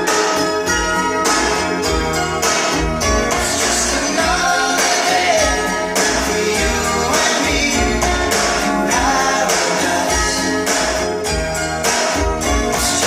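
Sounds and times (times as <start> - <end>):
heavy pulsing bass beat: 0.0 - 13.0
song with lead vocal: 0.0 - 13.0.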